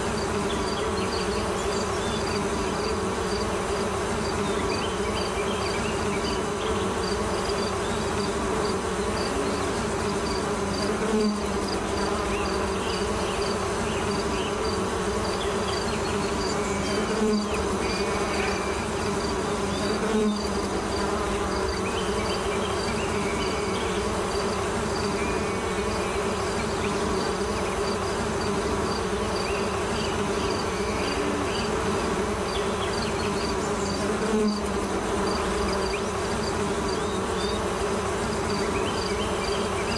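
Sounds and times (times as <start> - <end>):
insect-like buzzing: 0.0 - 39.9.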